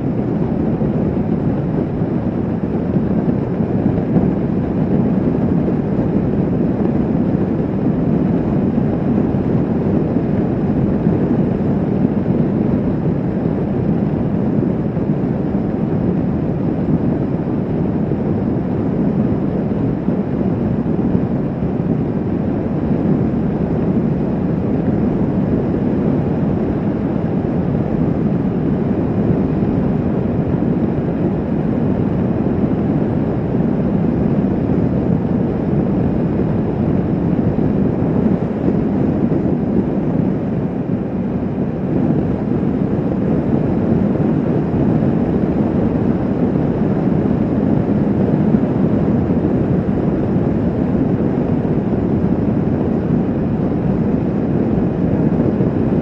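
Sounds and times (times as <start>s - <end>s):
wind rushing on microphone: 0.0s - 56.0s.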